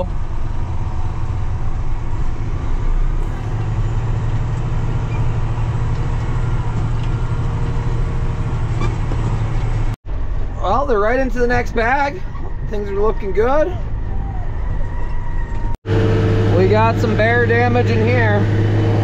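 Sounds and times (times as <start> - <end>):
heavy vehicle engine droning: 0.0 - 19.0.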